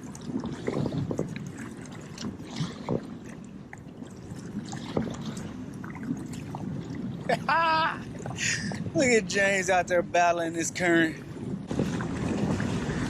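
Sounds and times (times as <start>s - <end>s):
small water splashes: 0.0s - 9.0s, 11.1s - 13.0s
water sloshing and lapping: 0.0s - 13.0s.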